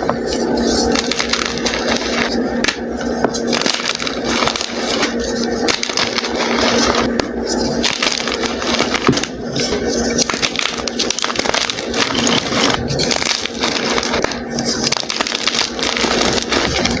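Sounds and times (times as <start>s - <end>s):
chalk crumbling: 0.0s - 17.0s.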